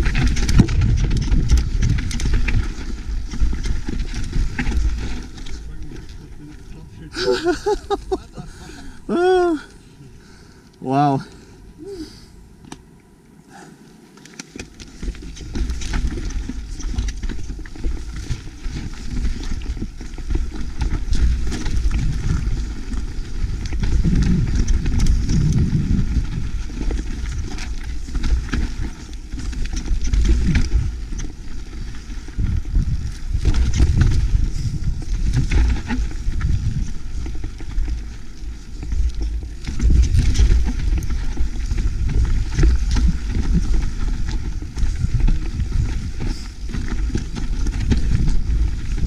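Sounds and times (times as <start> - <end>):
tyres rumbling over rock: 0.0 - 9.4, 14.6 - 49.0
wind buffeting microphone: 0.0 - 9.5, 15.0 - 49.0
bike rattling and knocking: 0.0 - 9.6, 14.3 - 49.0.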